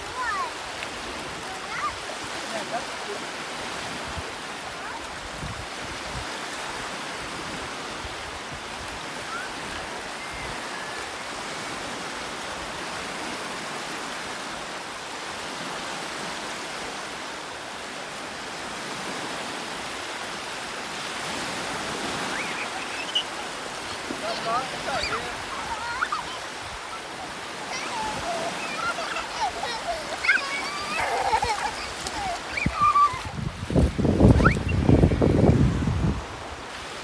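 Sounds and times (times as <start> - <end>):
lake waves washing over shallows: 0.0 - 37.0.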